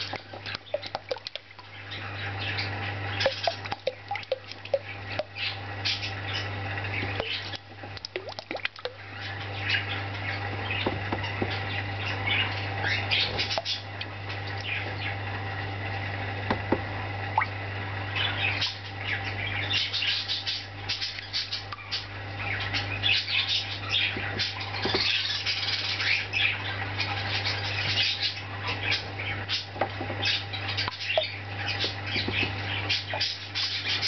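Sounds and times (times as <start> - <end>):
small birds chirping and squawking: 0.0 - 8.0, 8.9 - 15.4, 17.4 - 34.0
steady low hum: 0.0 - 34.0.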